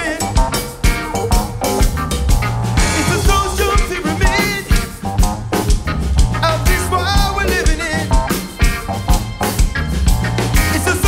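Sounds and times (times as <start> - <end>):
bass: 0.0 - 11.0
drum kit beat: 0.0 - 11.0
saxophone melody: 0.0 - 11.0.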